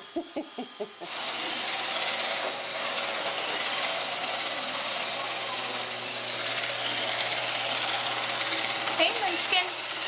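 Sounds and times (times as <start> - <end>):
robot vacuum cleaner whirring: 0.0 - 10.0.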